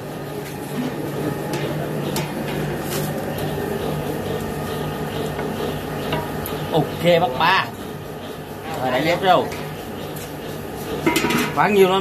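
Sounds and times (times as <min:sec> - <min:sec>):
pot steaming with rushing noise: 0:00.0 - 0:12.0.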